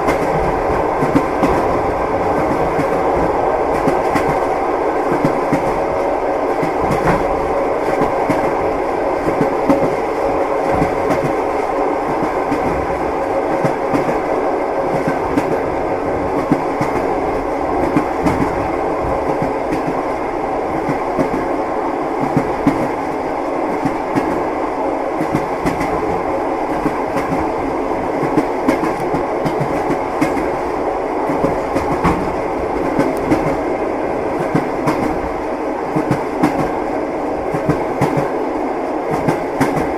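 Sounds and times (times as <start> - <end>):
train wheels clattering on rails: 0.0 - 21.5, 22.2 - 24.5, 25.1 - 33.7, 34.3 - 35.3, 35.9 - 36.8, 37.4 - 38.4, 39.1 - 39.9.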